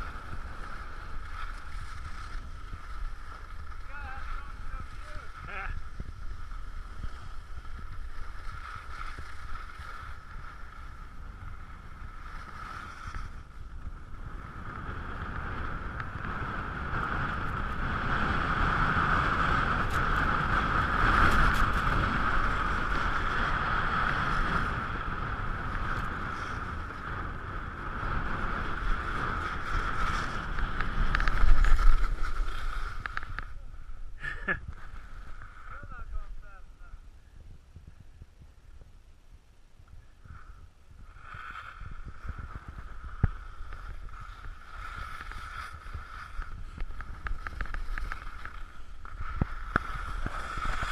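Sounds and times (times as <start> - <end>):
skis scraping over snow: 0.0 - 36.8, 40.2 - 50.9
wind rushing over microphone: 0.0 - 50.9.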